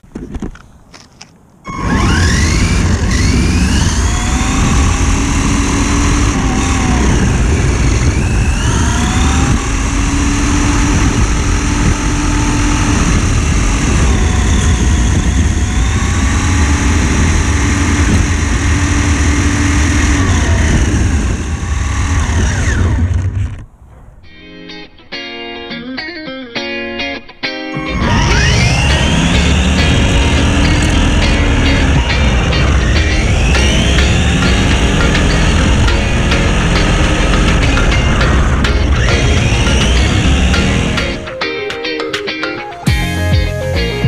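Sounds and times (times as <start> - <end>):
rc car motor whine: 1.7 - 23.7, 27.8 - 41.3
heavy low rumble: 1.9 - 25.7, 27.9 - 41.3.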